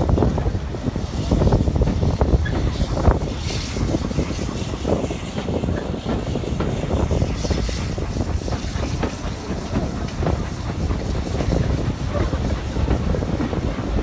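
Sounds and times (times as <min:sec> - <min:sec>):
train clicks and knocks: 0:00.0 - 0:14.0
train wheels rumbling on rails: 0:00.0 - 0:14.0.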